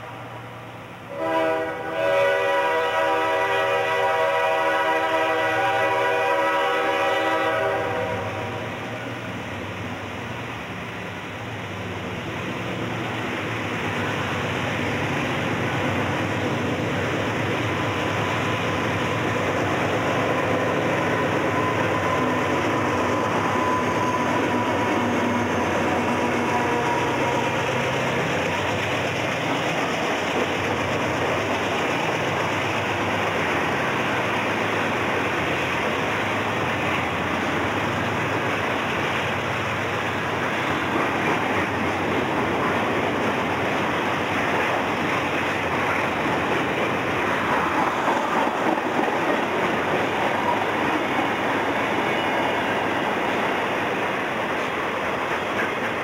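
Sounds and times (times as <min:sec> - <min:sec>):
diesel locomotives pulling hard: 0:00.0 - 0:56.0
freight cars wheel-on-rail noise: 0:00.0 - 0:56.0.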